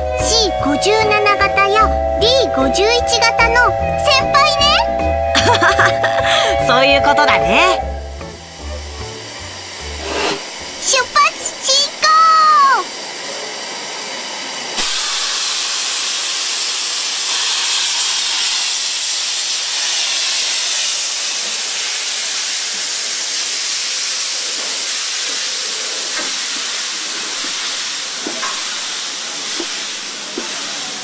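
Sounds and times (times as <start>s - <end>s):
steam hissing from locomotive: 0.0s - 31.0s.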